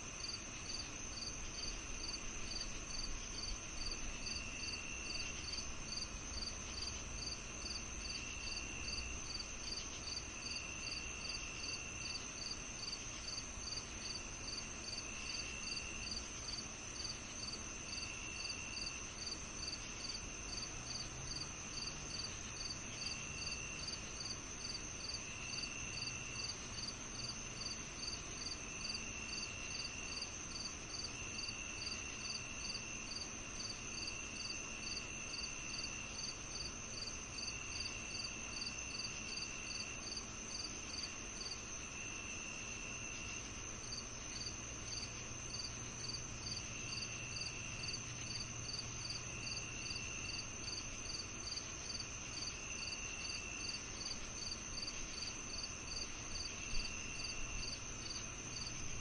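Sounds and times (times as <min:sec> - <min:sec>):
cricket chirping: 0:00.0 - 0:59.0
lower insect trill: 0:00.0 - 0:59.0
high-pitched insect trill: 0:00.2 - 0:59.0.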